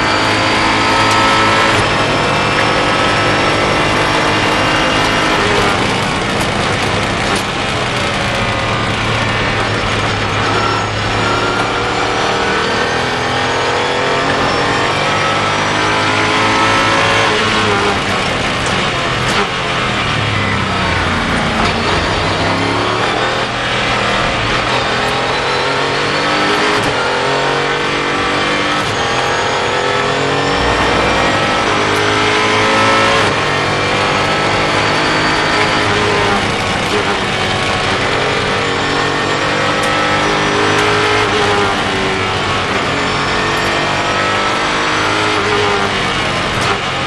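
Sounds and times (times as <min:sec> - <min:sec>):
race car engine revving: 0:00.0 - 0:47.0
wind and road noise: 0:00.0 - 0:47.0.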